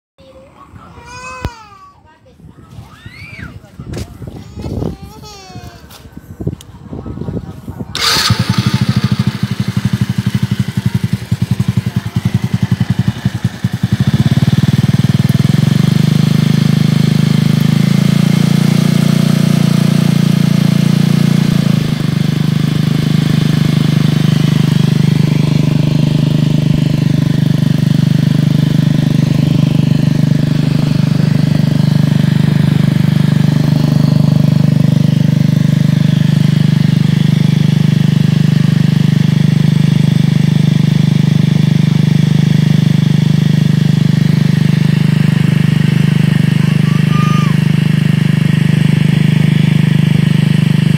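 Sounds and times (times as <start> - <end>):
motorcycle engine running pump: 7.0 - 50.9.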